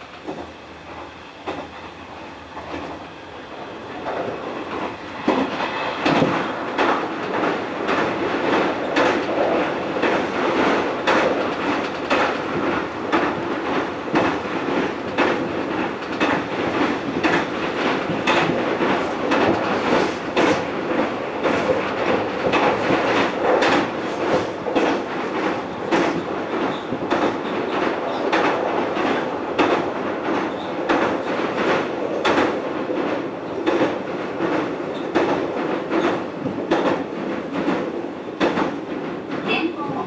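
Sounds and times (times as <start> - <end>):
train rolling rumble: 0.0 - 40.0
wheels clicking over rail joints: 3.9 - 40.0.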